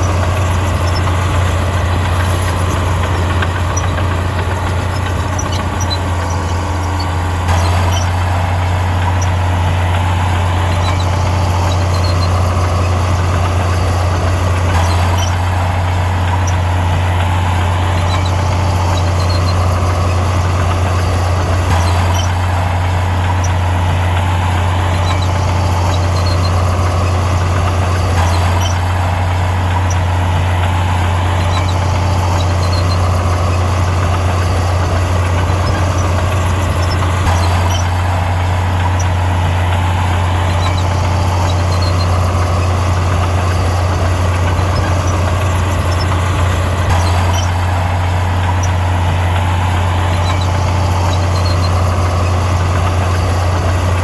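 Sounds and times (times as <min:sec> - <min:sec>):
heavy diesel engine drone: 0:00.0 - 0:54.0.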